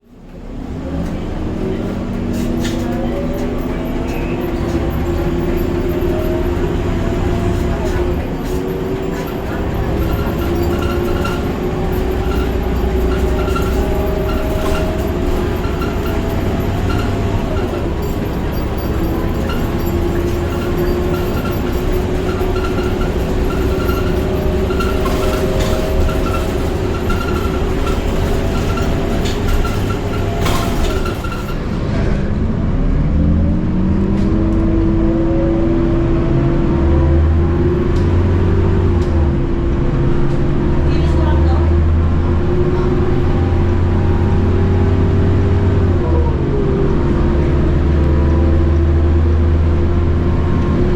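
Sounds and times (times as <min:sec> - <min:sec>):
bus diesel engine revving: 0:00.0 - 0:50.9.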